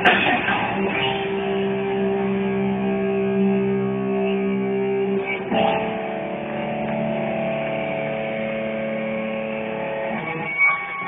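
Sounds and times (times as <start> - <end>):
distorted guitar chord ringing: 0.0 - 11.0.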